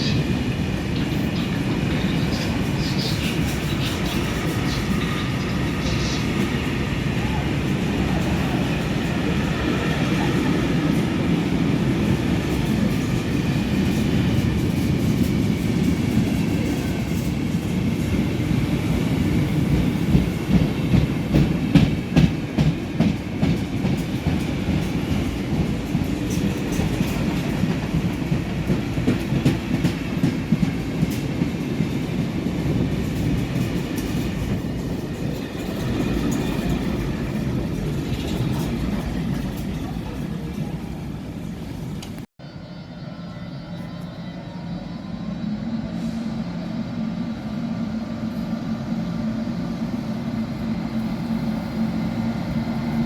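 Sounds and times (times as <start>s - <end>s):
train rumbling past: 0.0s - 53.0s.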